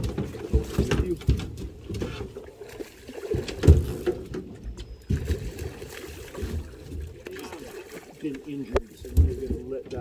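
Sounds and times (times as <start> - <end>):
fish splashing at surface: 0.0 - 4.4, 5.0 - 9.6.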